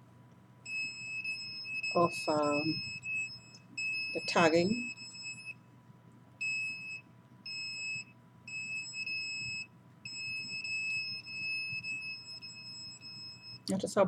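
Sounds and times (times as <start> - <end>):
meter alarm high beep: 0.7 - 5.6, 6.4 - 13.7.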